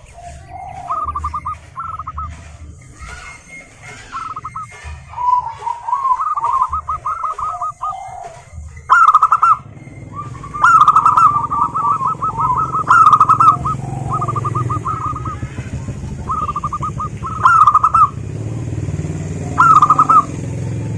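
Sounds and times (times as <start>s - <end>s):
doves cooing: 0.0s - 20.9s.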